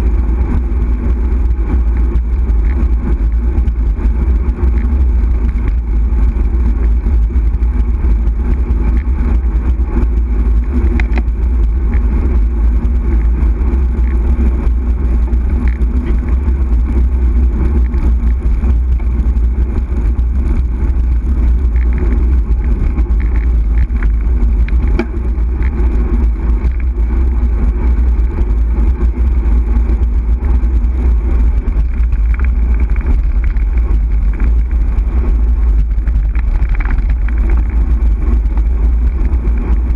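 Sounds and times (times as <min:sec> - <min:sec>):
tyre noise on tarmac: 0:00.0 - 0:39.9
wind rumble on microphone: 0:00.0 - 0:39.9.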